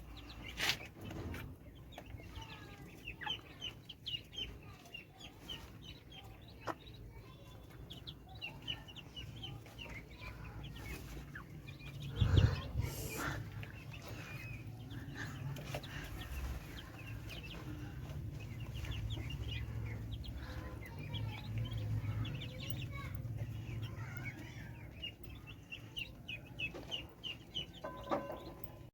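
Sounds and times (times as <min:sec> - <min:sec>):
poultry peeping and clucking: 0:00.0 - 0:28.9.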